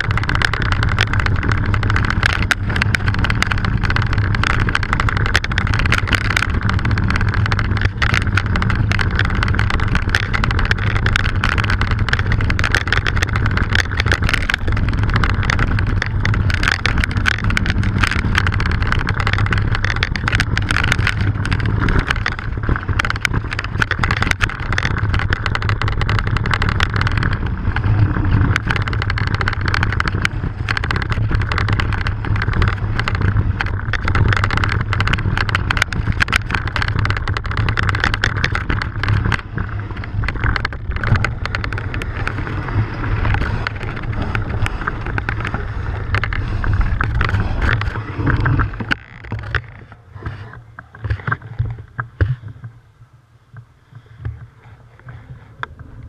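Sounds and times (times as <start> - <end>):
bike rattling and knocking: 0.0 - 52.8
tyres rumbling: 0.0 - 56.0
wind on microphone: 0.0 - 56.0.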